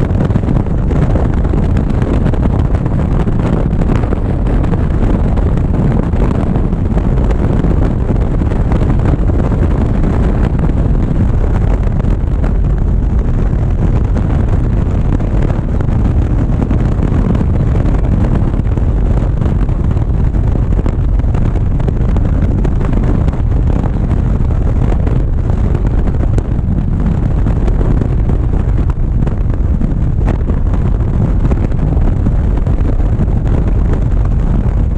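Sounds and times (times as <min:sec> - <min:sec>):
motorcycle engine running: 0:00.0 - 0:34.9
wind rush over microphone: 0:00.0 - 0:34.9.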